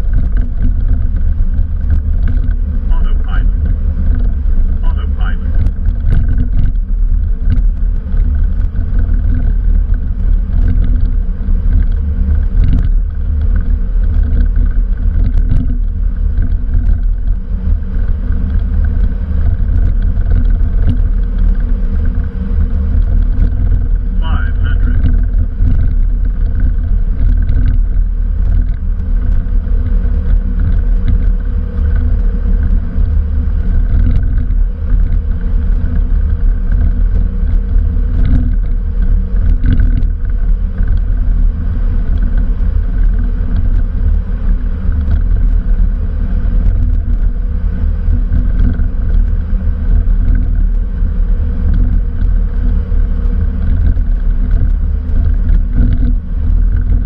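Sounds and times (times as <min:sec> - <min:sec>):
jet cockpit rumble: 0:00.0 - 0:57.0.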